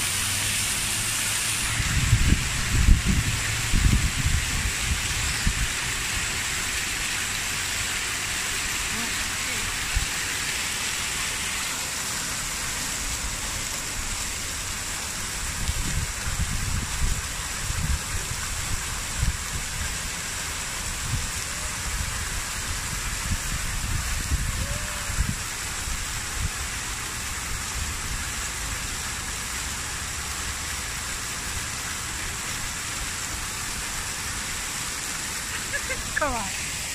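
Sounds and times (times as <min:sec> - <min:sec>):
fountain water splashing: 0:00.0 - 0:36.9.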